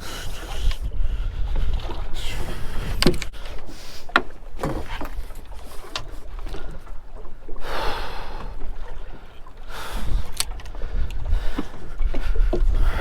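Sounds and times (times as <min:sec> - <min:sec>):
water slapping boat hull: 0:00.0 - 0:13.0
wind rumbling on microphone: 0:00.0 - 0:13.0.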